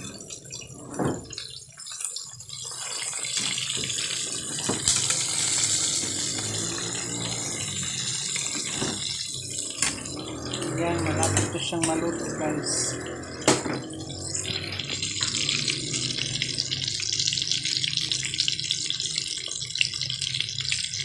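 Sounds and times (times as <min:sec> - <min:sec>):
meat sizzling in a frying pan: 0:01.3 - 0:12.1, 0:12.9 - 0:21.0.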